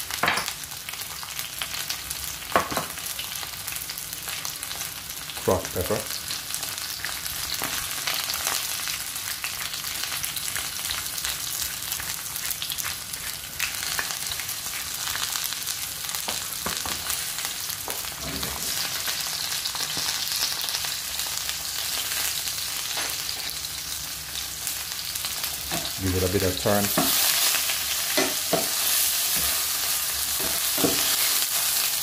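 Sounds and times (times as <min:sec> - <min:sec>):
mushrooms sizzling in oil: 0:00.0 - 0:32.0.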